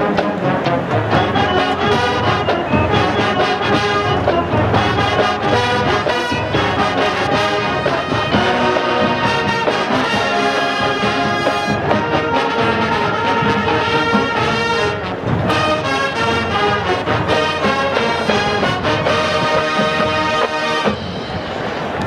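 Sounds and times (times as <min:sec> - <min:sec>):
marching band playing loudly: 0:00.0 - 0:22.0.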